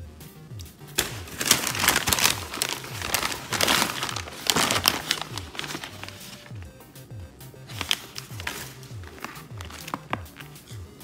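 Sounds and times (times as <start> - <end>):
background music with bass line: 0.0 - 11.0
paper bag crinkling: 1.0 - 6.7, 7.6 - 10.8.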